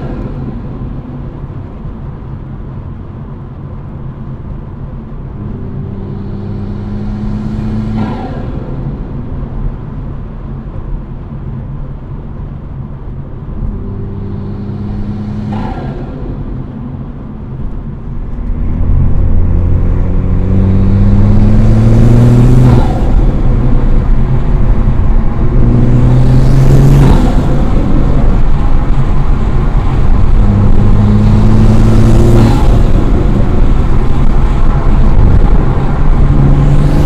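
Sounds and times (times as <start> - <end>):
car engine revving: 0.0 - 2.6, 5.2 - 10.7, 13.4 - 37.0.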